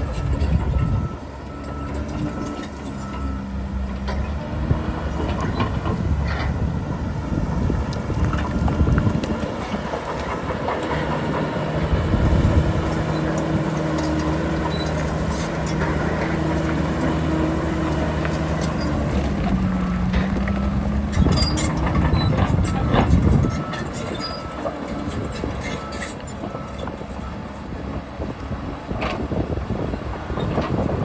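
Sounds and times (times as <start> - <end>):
diesel machinery engine rumble: 0.0 - 31.0.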